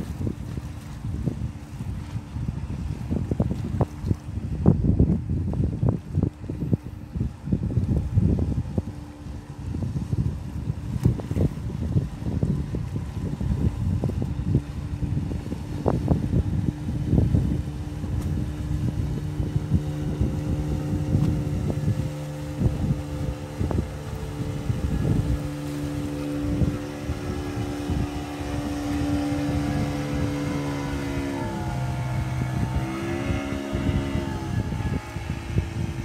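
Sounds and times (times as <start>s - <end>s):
outboard motor running: 0.0s - 36.0s
wind buffeting microphone: 0.0s - 36.0s.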